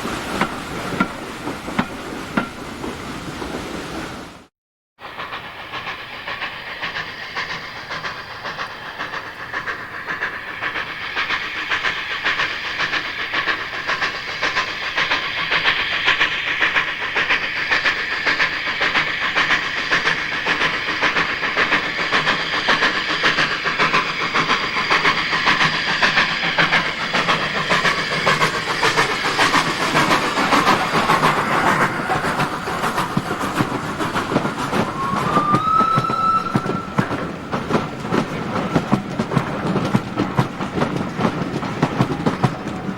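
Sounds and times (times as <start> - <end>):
train running: 0.0 - 42.9.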